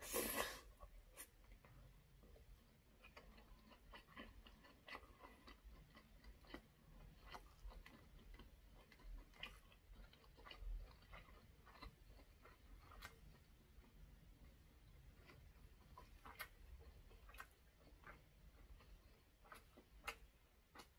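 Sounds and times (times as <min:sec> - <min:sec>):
mouth chewing wet smacks: 0:02.4 - 0:20.9.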